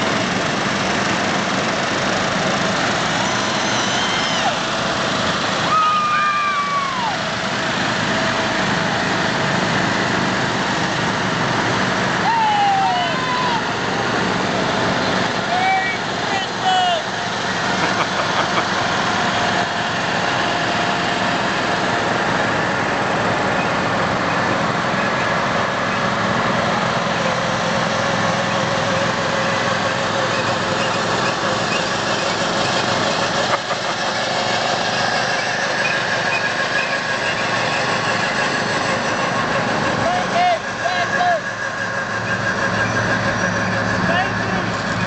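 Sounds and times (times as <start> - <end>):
lawn mower engines running: 0.0 - 45.0.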